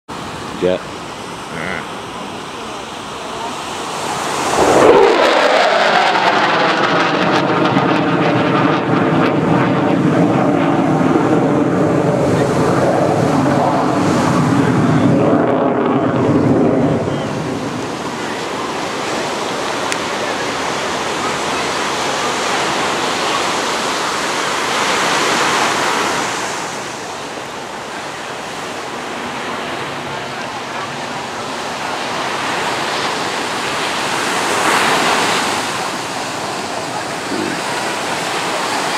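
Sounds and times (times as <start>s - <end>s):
jet passing overhead: 0.1s - 38.9s.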